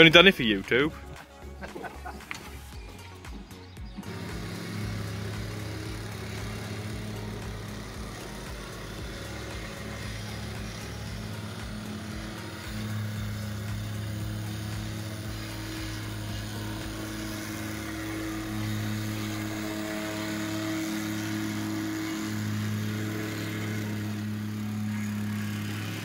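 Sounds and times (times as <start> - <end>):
plate compactor running: 0.0 - 26.0.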